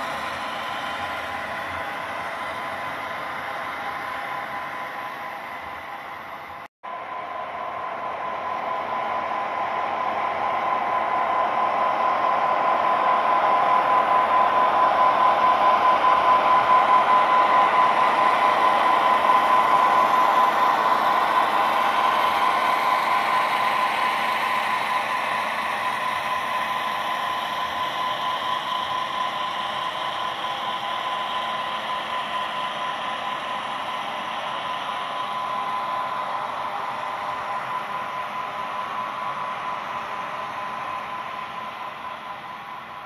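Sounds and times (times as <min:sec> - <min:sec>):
hum of running model train: 0:00.0 - 0:43.0.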